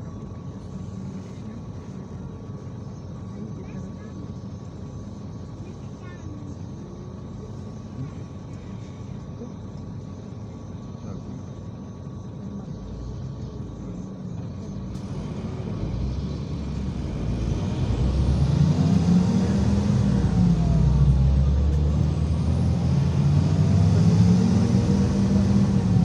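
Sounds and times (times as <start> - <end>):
bus engine pulling away: 0.0 - 26.0.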